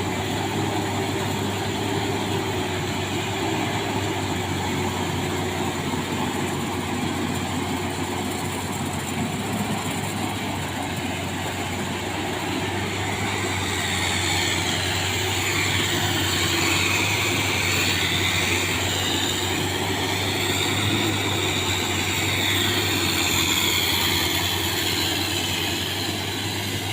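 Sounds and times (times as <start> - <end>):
combine harvester running: 0.0 - 26.9
high wavering whine: 0.0 - 26.9.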